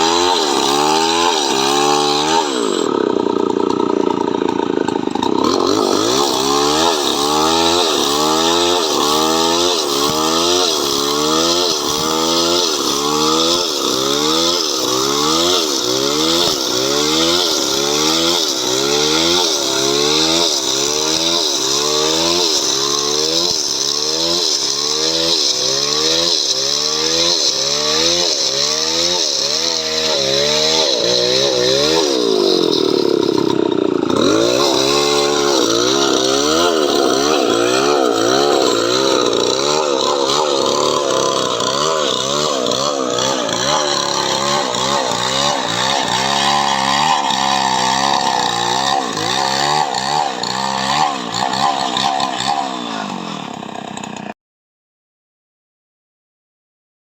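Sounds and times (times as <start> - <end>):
chainsaw cutting wood: 0.0 - 54.4.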